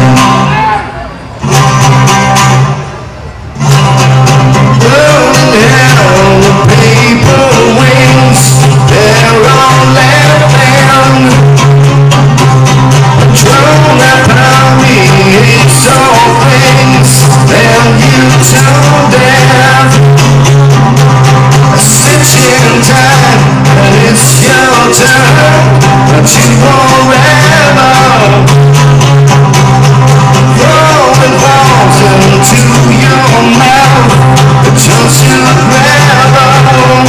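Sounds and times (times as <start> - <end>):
amplified guitar: 0.0 - 37.0
man singing with vibrato: 4.4 - 20.8, 21.4 - 29.2, 30.2 - 37.0.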